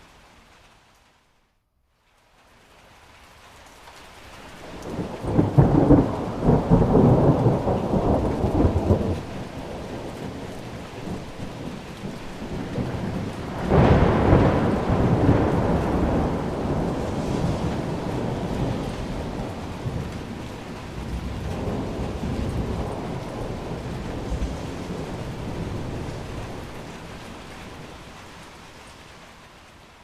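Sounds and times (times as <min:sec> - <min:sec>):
steady rain: 0:00.0 - 0:30.0
thunder rumbling: 0:04.6 - 0:28.8.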